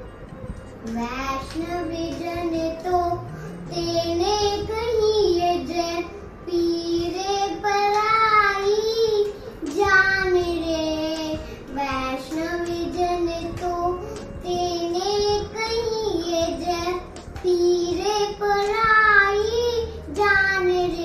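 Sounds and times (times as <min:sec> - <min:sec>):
girl singing: 0:00.8 - 0:21.0.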